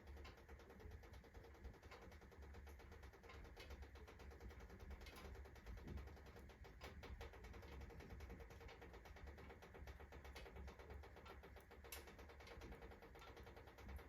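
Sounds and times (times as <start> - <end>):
stove crackling and ticking: 0.0 - 14.0.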